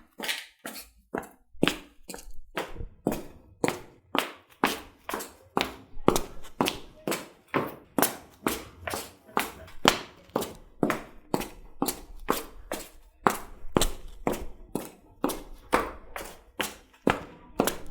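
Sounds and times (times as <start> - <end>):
footsteps on a hillside: 0.0 - 17.9.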